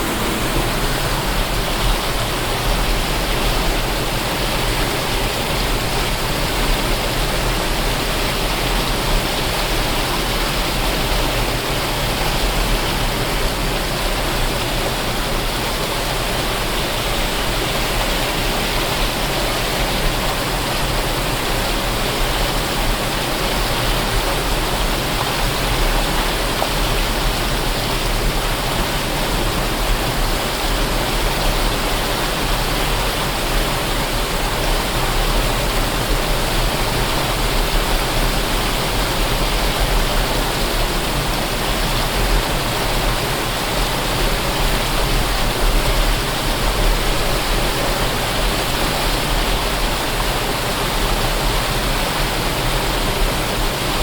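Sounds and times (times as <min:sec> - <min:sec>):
waterfall rushing roar: 0:00.0 - 0:54.0.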